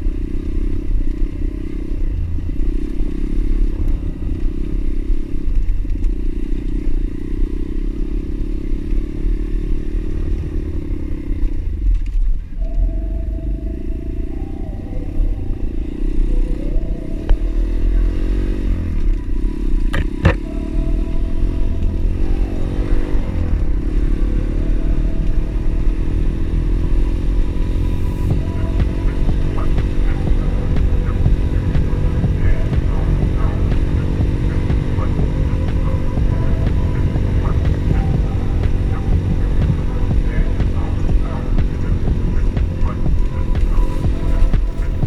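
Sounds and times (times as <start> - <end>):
motorbike engine revving: 0.0 - 45.0.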